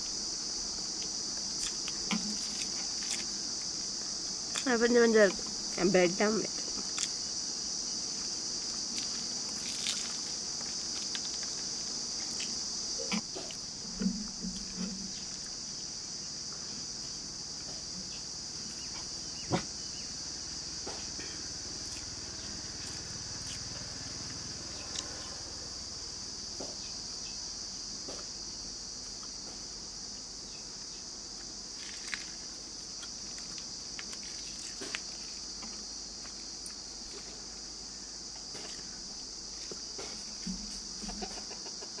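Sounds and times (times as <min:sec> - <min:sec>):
insect chorus chirring: 0:00.0 - 0:42.0.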